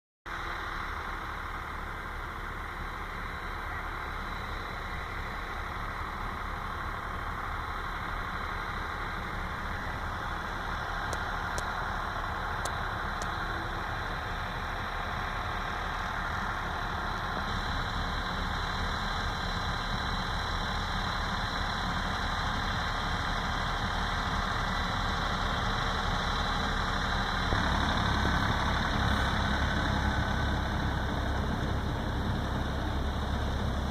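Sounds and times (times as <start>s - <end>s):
diesel tractor engine running: 0.3s - 33.9s.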